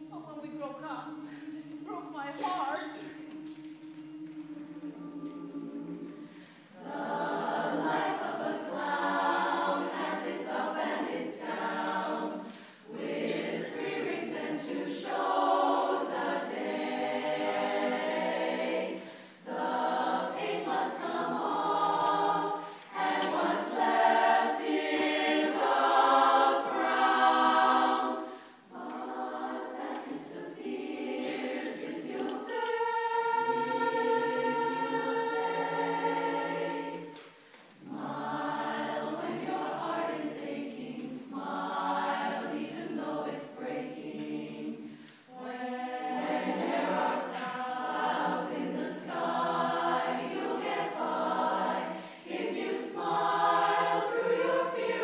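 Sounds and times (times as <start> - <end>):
women's chorus singing a cappella: 0.0 - 55.0.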